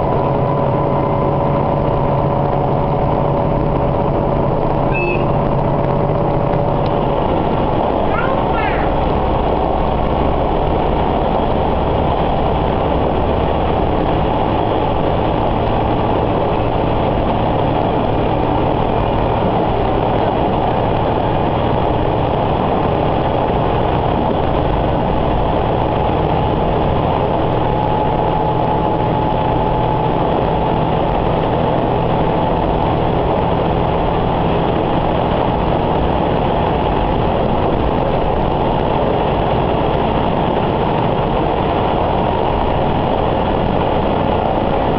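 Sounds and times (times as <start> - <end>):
diesel engine drone: 0.0 - 44.9
train running noise: 0.0 - 44.9.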